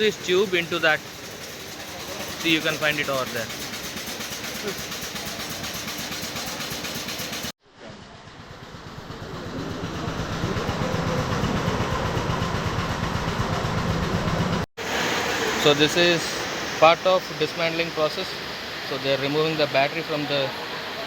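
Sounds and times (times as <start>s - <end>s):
industrial machinery pulsing: 0.0s - 19.3s.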